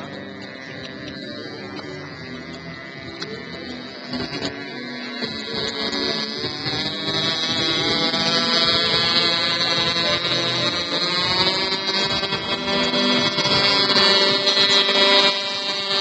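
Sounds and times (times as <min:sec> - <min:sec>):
model plane engine running: 0:00.0 - 0:16.0.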